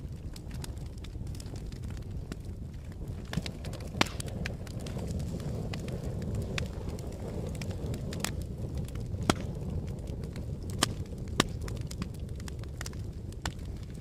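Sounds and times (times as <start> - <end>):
fire crackles and pops: 0.0 - 14.0
fire low rumble: 0.0 - 14.0.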